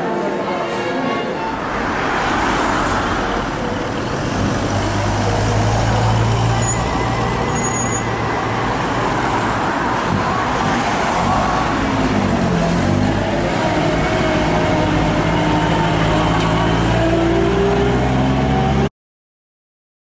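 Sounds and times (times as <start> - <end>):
vehicles driving slowly past: 1.5 - 18.9.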